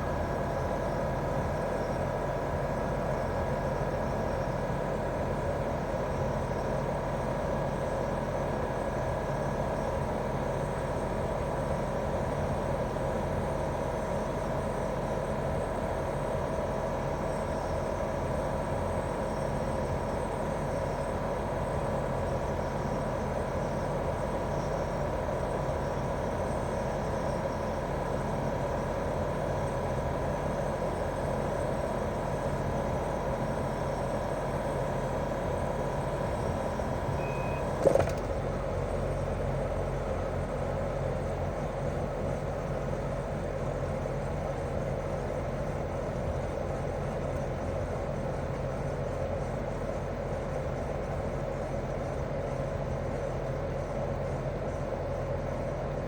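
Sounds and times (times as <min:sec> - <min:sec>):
air conditioner outdoor unit humming: 0:00.0 - 0:56.0.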